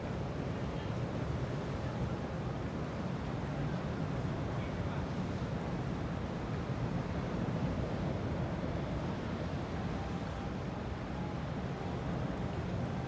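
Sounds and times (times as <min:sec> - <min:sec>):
boat traffic rumble: 0:00.0 - 0:13.0.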